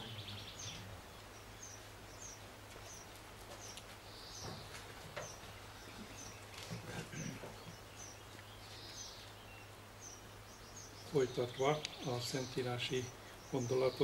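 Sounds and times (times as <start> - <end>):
low steady hum: 0.0 - 14.0
small birds chirping: 0.0 - 14.0.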